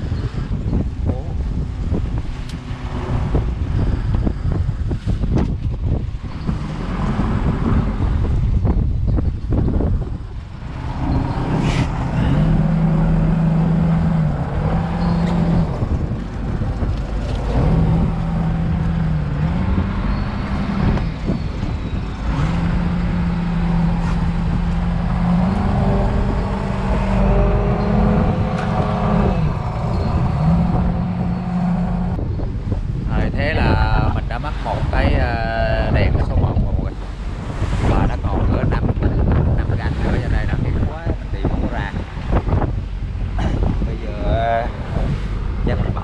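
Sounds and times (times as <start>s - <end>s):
boat machinery humming: 0.0s - 46.0s
wind and sea rushing: 0.0s - 46.0s.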